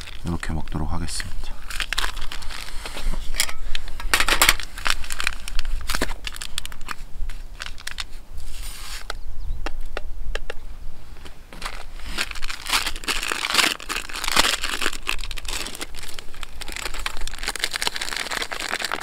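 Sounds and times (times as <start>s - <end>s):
plastic packaging crinkling: 0.0s - 8.2s, 11.5s - 19.0s.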